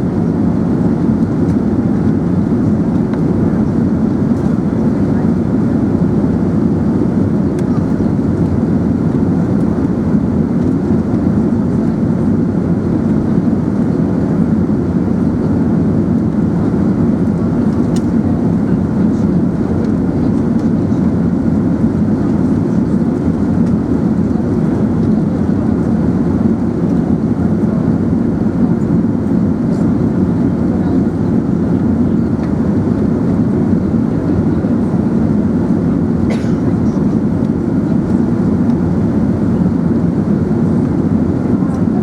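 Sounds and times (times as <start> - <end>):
aircraft engines rumbling in cabin: 0.0 - 42.0.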